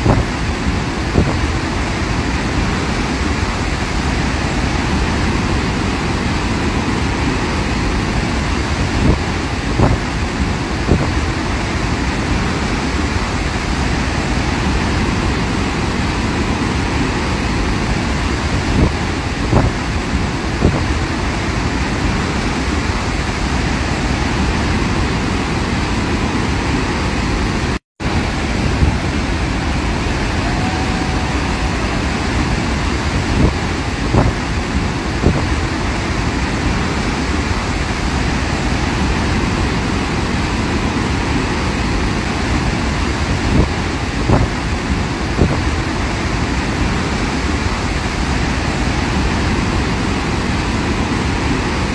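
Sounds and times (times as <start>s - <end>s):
waterfall roaring: 0.0s - 51.9s.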